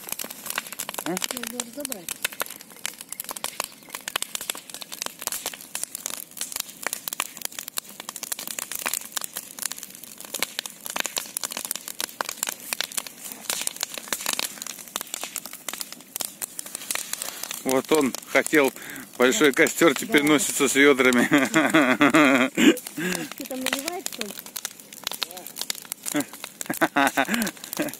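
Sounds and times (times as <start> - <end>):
bonfire crackling and popping: 0.0 - 27.9.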